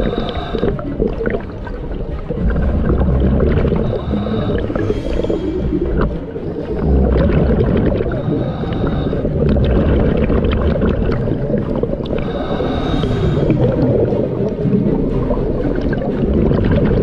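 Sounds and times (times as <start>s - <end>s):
underwater breath bubbling: 0.0s - 17.0s.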